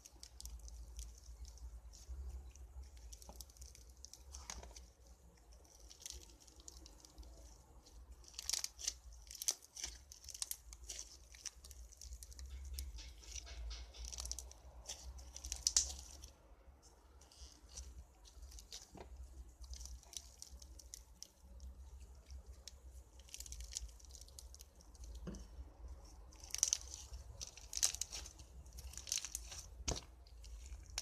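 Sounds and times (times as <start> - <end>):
slime squeezed by hand crackling: 0.0 - 16.3, 17.1 - 31.0.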